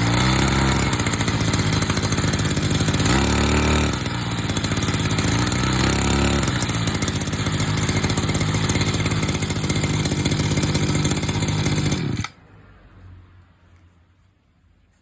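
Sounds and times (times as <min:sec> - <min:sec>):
brush cutter engine running: 0:00.0 - 0:12.4.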